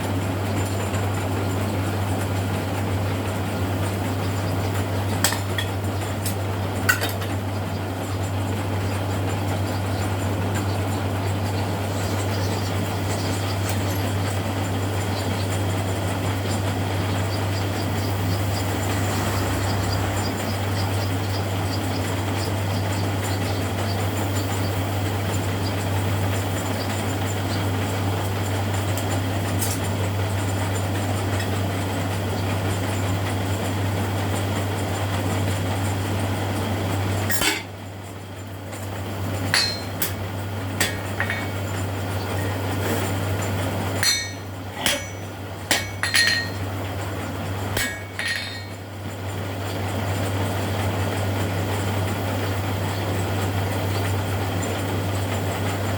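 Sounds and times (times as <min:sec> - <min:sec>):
machine hum: 0:00.0 - 0:55.9.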